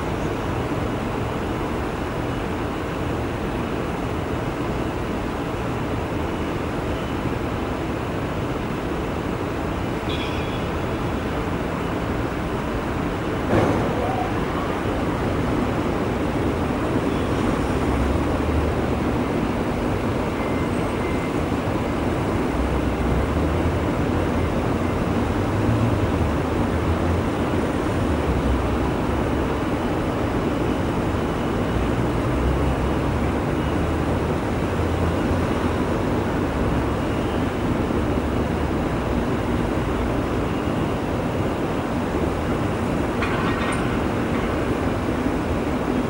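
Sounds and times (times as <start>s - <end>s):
steady rumbling outdoor noise: 0.0s - 46.0s.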